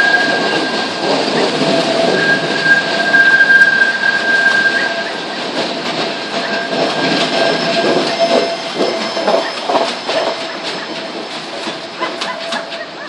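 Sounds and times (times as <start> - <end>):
high wheel squeal: 0.0 - 5.5, 6.3 - 13.0
train wheels clacking over rail joints: 0.0 - 13.0.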